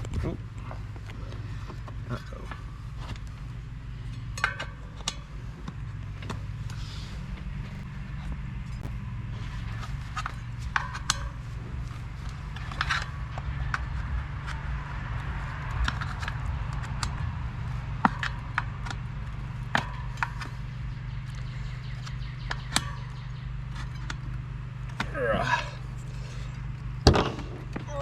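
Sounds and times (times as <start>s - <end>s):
steady low hum: 0.0s - 28.0s
tire bead and lever creaking: 0.0s - 28.0s.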